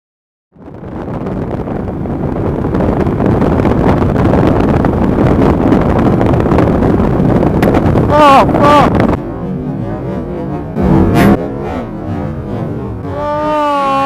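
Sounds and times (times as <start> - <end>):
wind buffeting microphone: 0.5 - 14.0.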